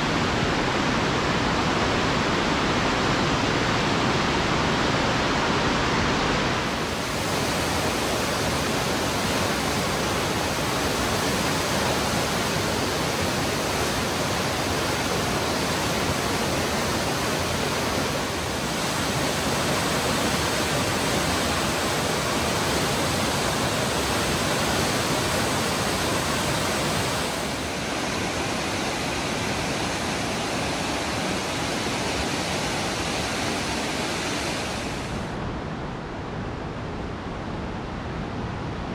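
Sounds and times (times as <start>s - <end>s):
river rushing through rapids: 0.0s - 38.9s.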